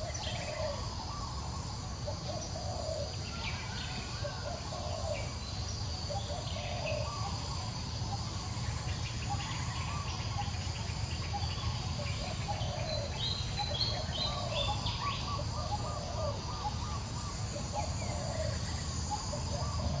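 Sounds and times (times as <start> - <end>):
birds calling: 0.0 - 20.0
insect drone: 0.0 - 20.0.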